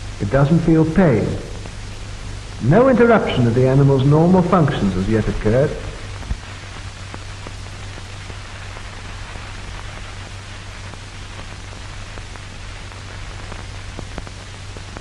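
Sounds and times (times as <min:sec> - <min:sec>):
crackles and clicks: 0:00.0 - 0:15.0
film soundtrack hiss: 0:00.0 - 0:15.0
low hum: 0:00.0 - 0:15.0.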